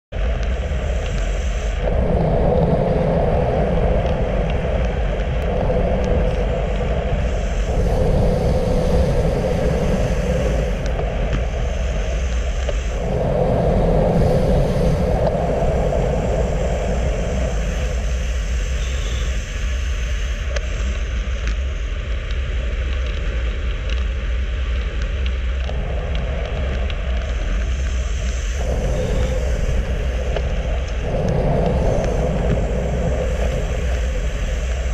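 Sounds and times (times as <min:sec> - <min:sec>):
wind rush on microphone: 0:00.0 - 0:34.9
road rumble: 0:00.1 - 0:34.9.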